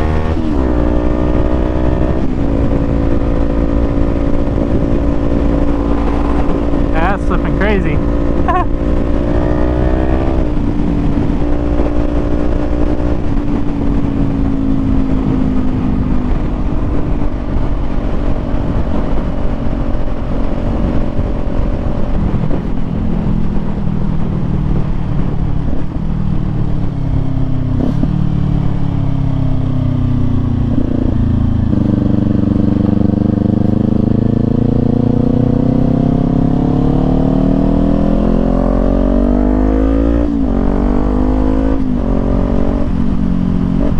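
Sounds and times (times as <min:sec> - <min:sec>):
motorcycle engine running: 0:00.0 - 0:39.3
wind rumble: 0:00.0 - 0:43.9.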